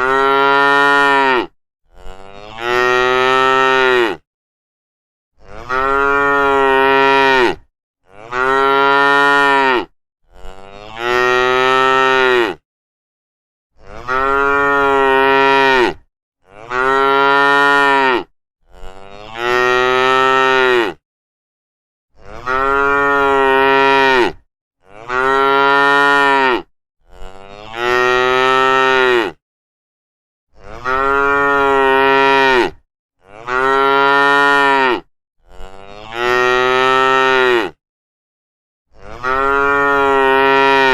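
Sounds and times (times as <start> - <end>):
cows mooing: 0.0 - 4.2, 5.4 - 12.6, 13.8 - 21.0, 22.3 - 29.4, 30.6 - 37.8, 39.0 - 40.9.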